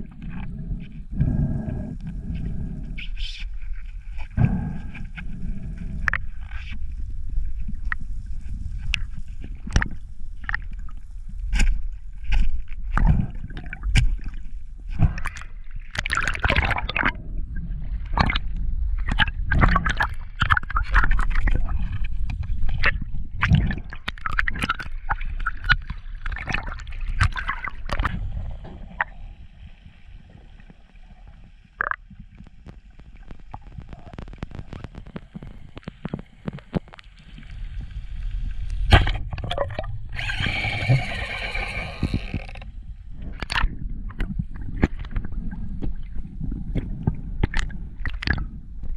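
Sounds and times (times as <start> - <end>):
water splashing and gurgling: 0.0 - 48.9.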